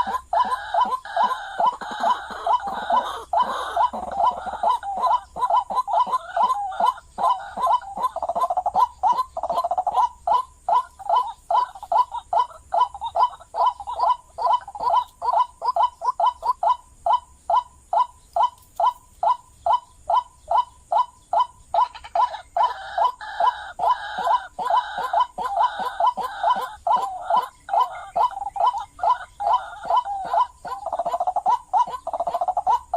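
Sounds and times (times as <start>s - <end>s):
bird croaking call: 0.0s - 32.9s.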